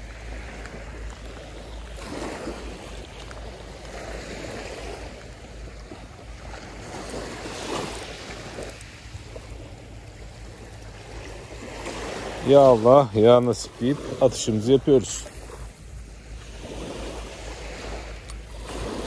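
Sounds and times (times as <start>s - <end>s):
waves washing on shore: 0.0s - 19.0s
wind rumbling on microphone: 0.0s - 19.0s.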